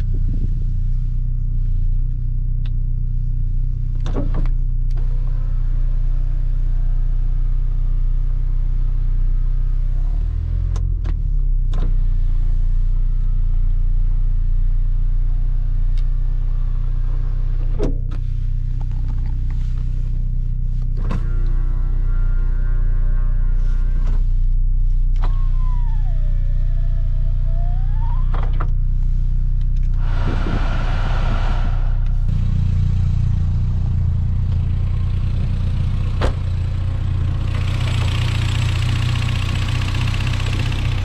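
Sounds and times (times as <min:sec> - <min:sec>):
car engine and road rumble: 0:00.0 - 0:41.0.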